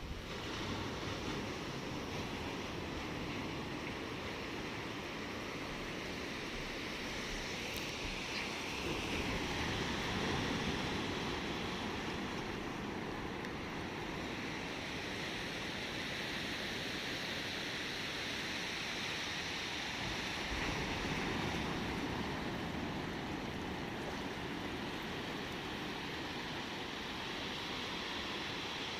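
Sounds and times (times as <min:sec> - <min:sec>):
ocean waves washing in: 0:00.0 - 0:28.9.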